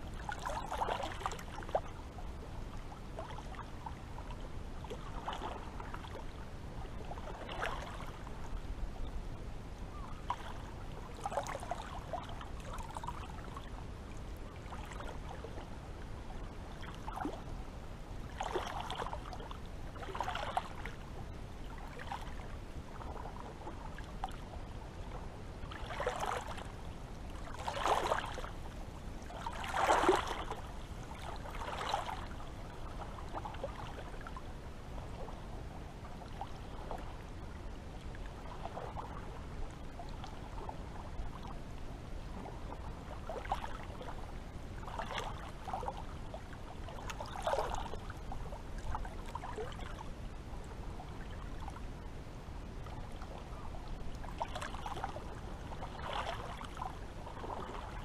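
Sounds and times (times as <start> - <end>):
seawater lapping and splashing: 0.0 - 8.7, 9.9 - 58.0.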